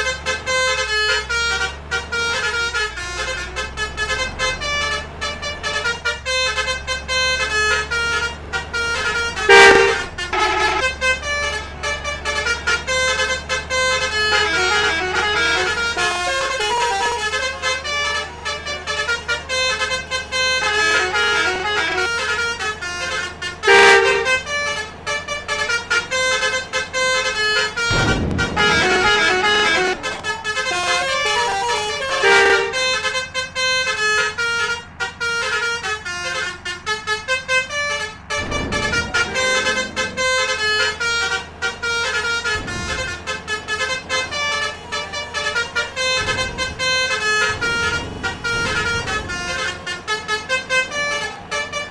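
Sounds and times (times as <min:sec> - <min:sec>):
multi-tone horns playing melodies: 0:00.0 - 0:51.9
vehicle engine rumble: 0:00.0 - 0:51.9.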